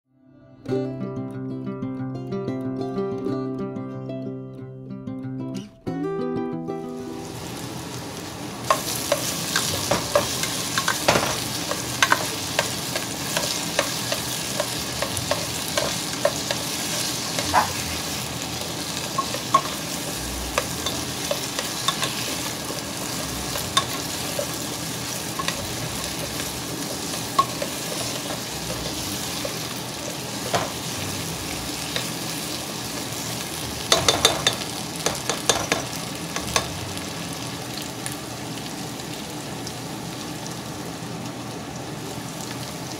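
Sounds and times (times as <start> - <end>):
vegetables sizzling in oil: 6.9 - 42.9.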